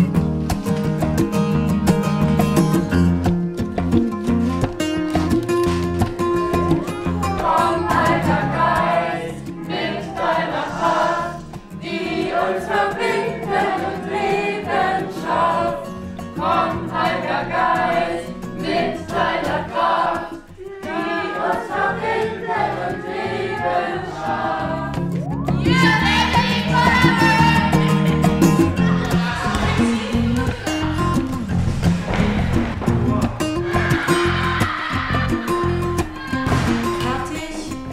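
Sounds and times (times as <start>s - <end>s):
music: 0.0s - 37.9s
group of voices singing: 6.6s - 37.9s.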